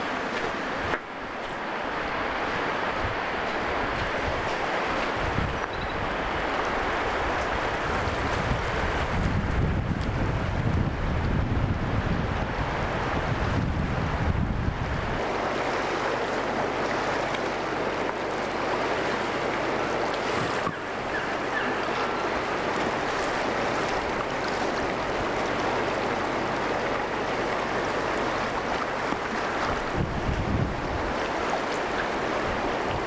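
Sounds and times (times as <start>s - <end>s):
river rushing roar: 0.0s - 33.0s
wind buffeting microphone: 0.0s - 33.0s.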